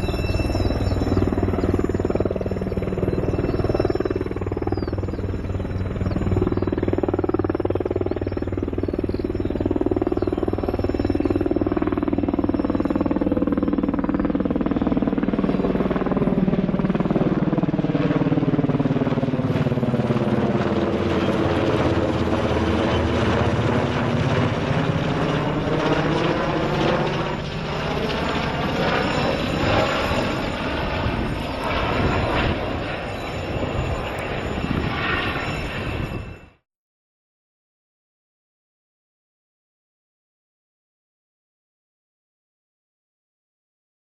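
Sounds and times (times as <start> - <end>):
helicopter flying overhead: 0.0 - 36.6.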